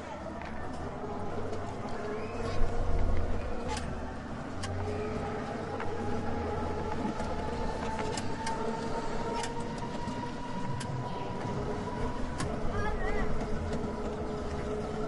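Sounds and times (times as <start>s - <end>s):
ride machinery humming: 0.0s - 15.0s.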